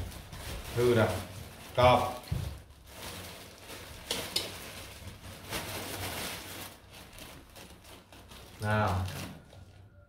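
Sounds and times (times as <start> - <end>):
plastic bag rustling: 0.0 - 9.9.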